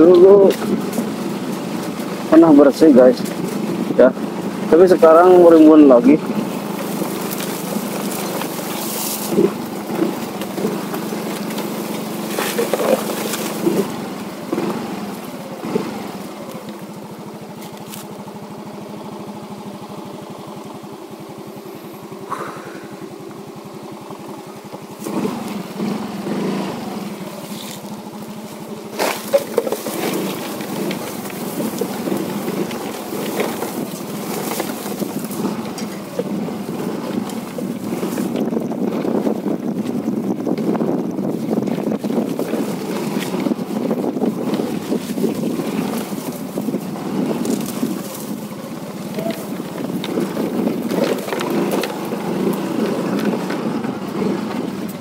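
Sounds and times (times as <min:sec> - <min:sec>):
knocks and rattles from bumps: 0:00.0 - 0:16.9, 0:26.8 - 0:55.0
motorcycle engine running: 0:00.0 - 0:55.0.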